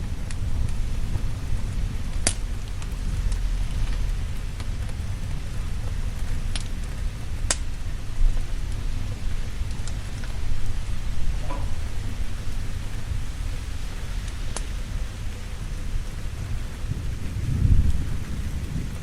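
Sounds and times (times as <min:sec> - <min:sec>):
crackling fire with pops: 0:00.0 - 0:19.0
low rumble of thunder: 0:00.0 - 0:19.0
steady rain: 0:00.0 - 0:19.0.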